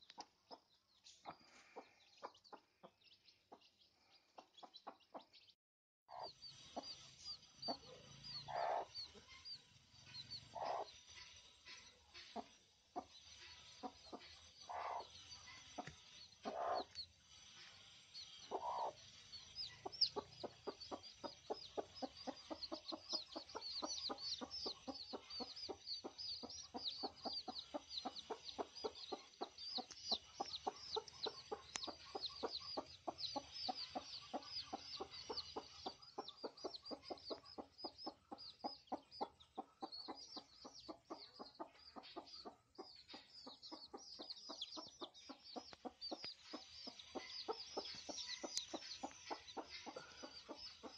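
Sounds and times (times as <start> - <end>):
chicks peeping: 0.0 - 5.5, 6.1 - 50.9
hen clucking: 4.4 - 5.4, 7.7 - 9.4, 10.5 - 17.0, 18.5 - 19.0, 19.6 - 50.9.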